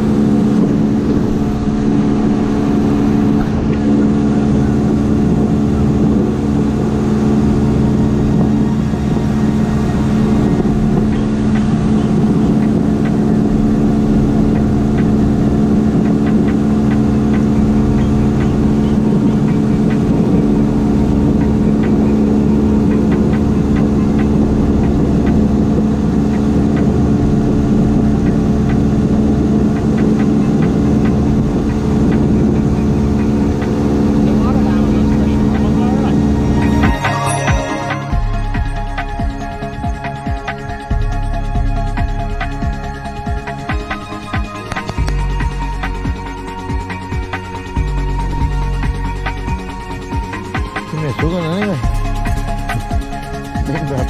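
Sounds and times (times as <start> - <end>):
outboard motor droning: 0.0 - 54.0.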